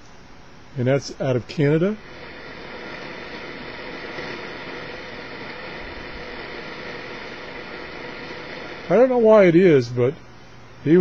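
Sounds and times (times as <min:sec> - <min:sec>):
radio static hiss: 0:00.8 - 0:10.2.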